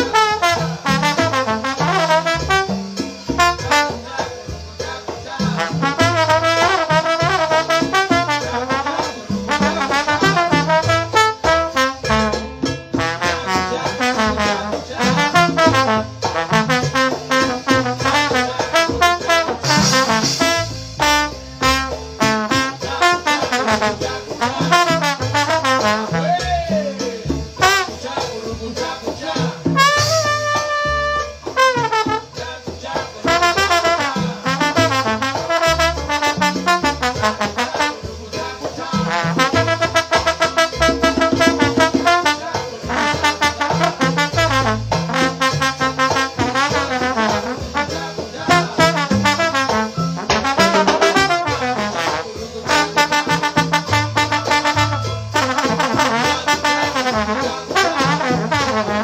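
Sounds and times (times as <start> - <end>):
bass line: 0.0 - 59.0
latin band playing: 0.0 - 59.0
percussion rhythm: 0.0 - 59.0
trombone solo: 0.0 - 59.0.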